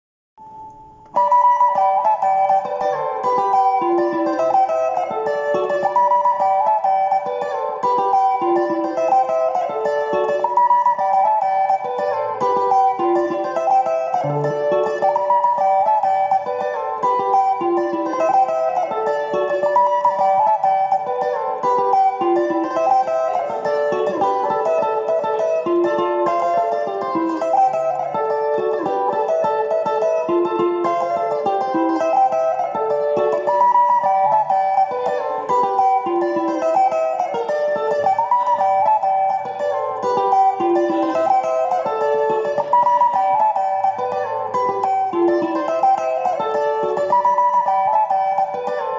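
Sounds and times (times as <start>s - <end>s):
fast picked guitar lead: 0.4s - 48.9s.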